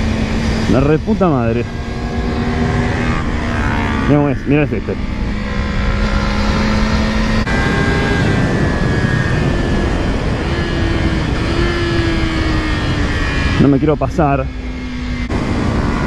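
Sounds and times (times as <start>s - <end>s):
motorcycle engine revving: 0.0s - 16.0s
wind rush: 0.0s - 16.0s.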